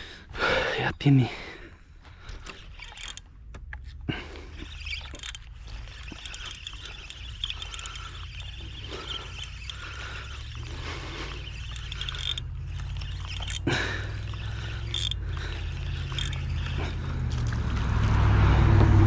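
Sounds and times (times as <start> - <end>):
fishing reel whirring and clicking: 2.2 - 17.9.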